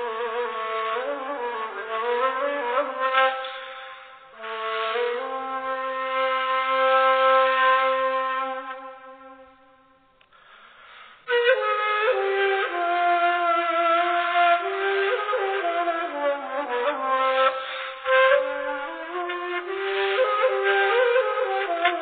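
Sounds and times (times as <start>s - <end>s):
instrumental music: 0.0s - 22.0s.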